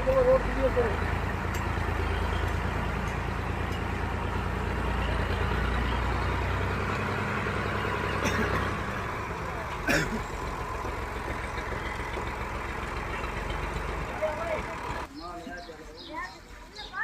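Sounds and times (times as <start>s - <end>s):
large engine idling: 0.0s - 15.4s.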